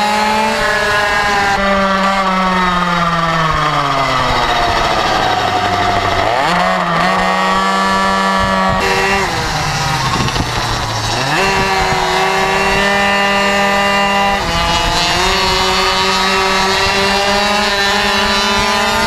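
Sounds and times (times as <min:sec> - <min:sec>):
small two-stroke engine revving: 0:00.0 - 0:19.0.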